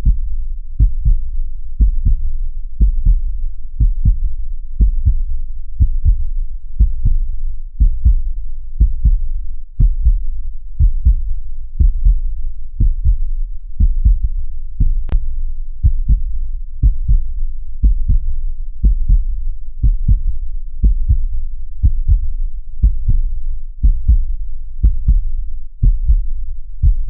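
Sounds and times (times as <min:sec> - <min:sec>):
heartbeat lub-dub: 0:00.0 - 0:27.0.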